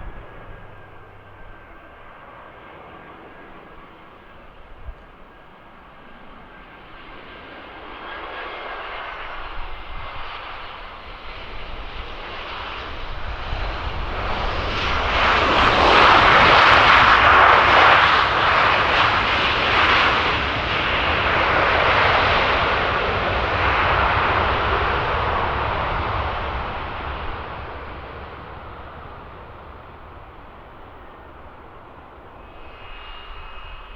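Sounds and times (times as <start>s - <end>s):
jet aircraft engines passing: 0.0s - 33.9s.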